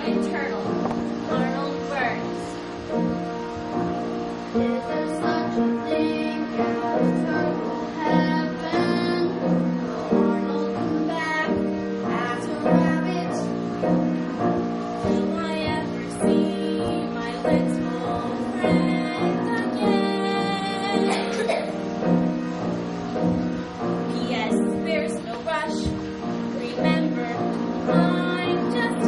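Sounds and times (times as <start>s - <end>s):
piano accompaniment: 0.0s - 29.0s
stage musical music: 0.0s - 29.0s.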